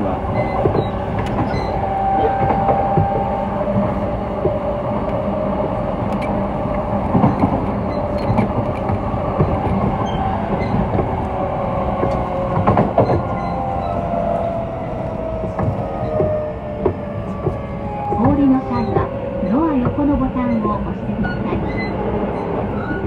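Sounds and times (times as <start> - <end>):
electric train running rumble: 0.0 - 23.0
wheels knocking on rails: 0.3 - 5.2, 6.1 - 14.6, 15.2 - 21.0.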